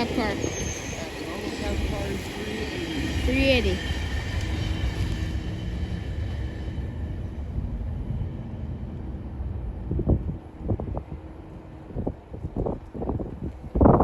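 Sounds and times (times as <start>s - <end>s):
train rumbling past on rails: 0.0s - 14.0s
wind gust on microphone: 0.0s - 14.0s.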